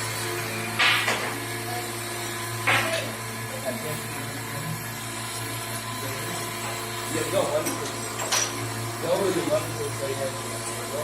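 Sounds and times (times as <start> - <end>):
machine tool humming: 0.0 - 11.0.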